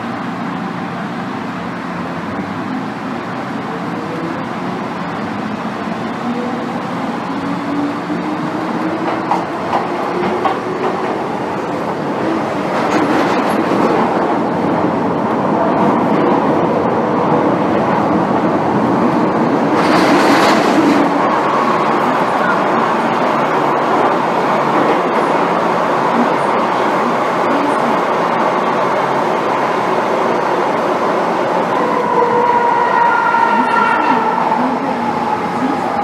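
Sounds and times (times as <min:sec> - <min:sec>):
train rushing: 0:00.0 - 0:36.0
train wheels rumbling on rails: 0:00.0 - 0:36.0.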